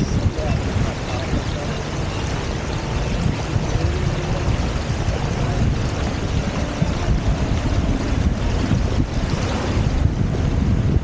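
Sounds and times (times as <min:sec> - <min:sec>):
water rushing along boat hulls: 0:00.0 - 0:11.0
wind buffeting microphone: 0:00.0 - 0:11.0.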